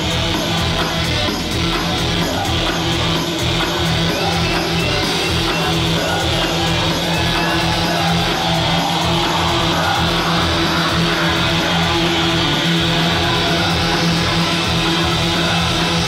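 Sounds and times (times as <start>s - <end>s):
loud dance music: 0.0s - 16.0s.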